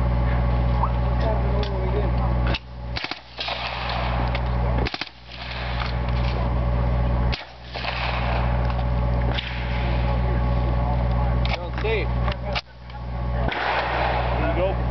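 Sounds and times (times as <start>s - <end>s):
low rumble: 0.0s - 14.9s.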